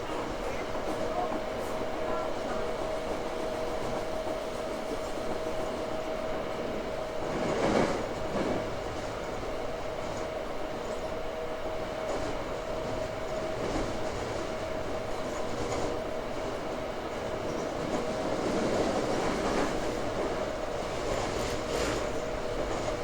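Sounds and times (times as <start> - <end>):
subway car running noise: 0.0 - 23.0.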